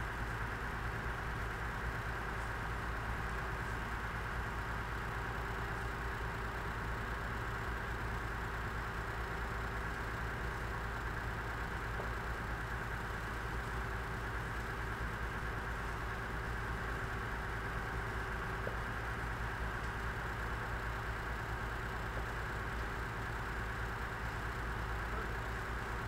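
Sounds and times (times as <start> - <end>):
heavy machinery engine idling: 0.0 - 26.0.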